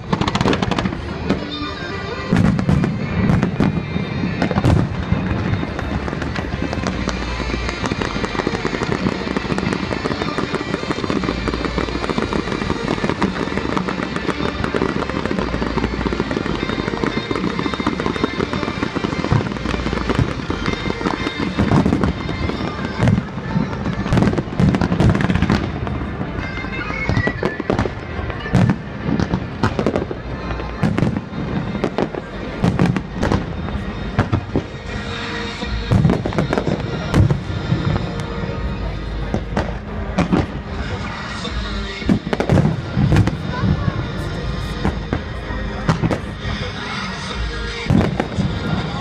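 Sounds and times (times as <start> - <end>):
fireworks bangs: 0.0 - 49.0
fireworks crackling: 0.0 - 49.0
music: 0.0 - 49.0.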